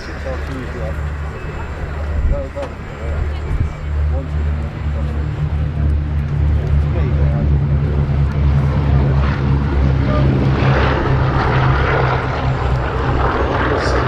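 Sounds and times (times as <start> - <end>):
multi-engine aircraft drone: 0.0 - 14.0
rushing propeller noise: 0.0 - 14.0.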